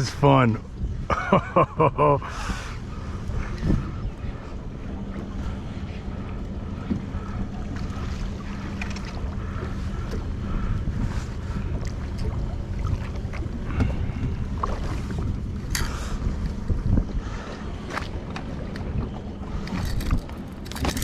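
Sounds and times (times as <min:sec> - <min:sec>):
low rumble and hum: 0:00.0 - 0:21.0
wind on microphone: 0:00.0 - 0:21.0
water against boat hull: 0:03.3 - 0:21.0.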